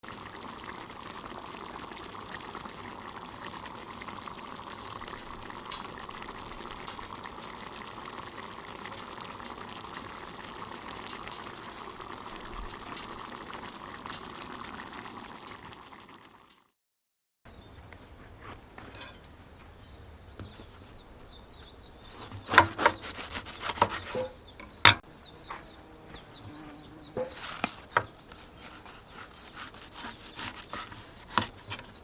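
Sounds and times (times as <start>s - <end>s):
sauce bubbling in a pan: 0.0s - 16.8s, 20.1s - 32.0s.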